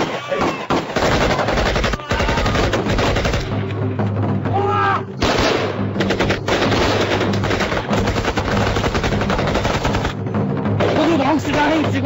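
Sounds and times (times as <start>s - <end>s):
rapid gunfire: 0.0s - 3.6s, 5.2s - 10.2s, 10.8s - 12.0s.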